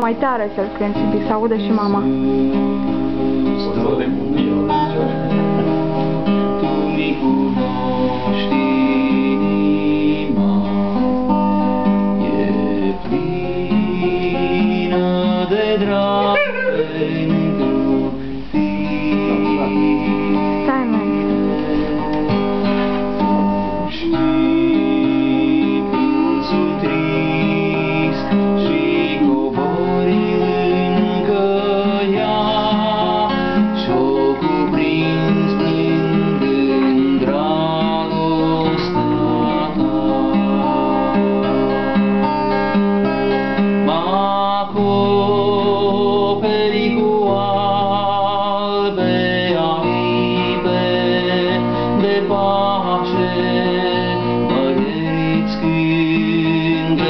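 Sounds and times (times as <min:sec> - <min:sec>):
acoustic guitar strumming: 0:00.0 - 0:57.0
person singing a worship song: 0:01.0 - 0:05.3, 0:06.4 - 0:42.0, 0:43.3 - 0:57.0.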